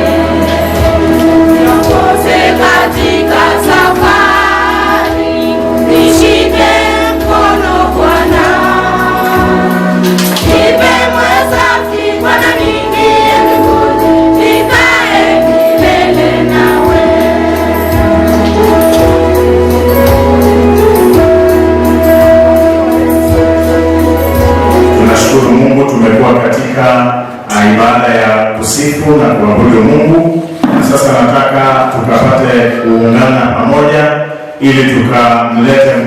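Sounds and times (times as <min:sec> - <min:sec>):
gospel choir singing: 0:00.0 - 0:36.0
instrumental accompaniment: 0:00.0 - 0:36.0.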